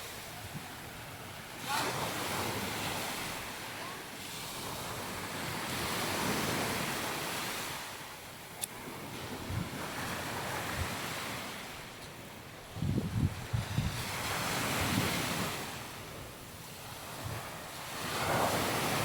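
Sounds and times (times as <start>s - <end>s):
sea waves on sandy beach: 0.0s - 19.0s.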